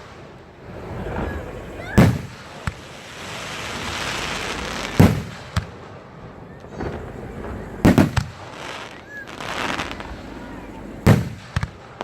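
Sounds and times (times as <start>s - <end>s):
fireworks booming: 0.0s - 12.0s
fireworks crackling hiss: 0.0s - 12.0s.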